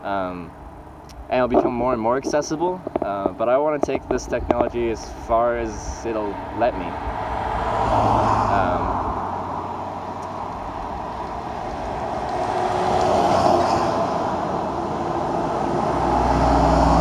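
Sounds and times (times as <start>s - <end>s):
deep engine rumble: 0.0s - 17.0s
vehicles passing: 0.0s - 17.0s.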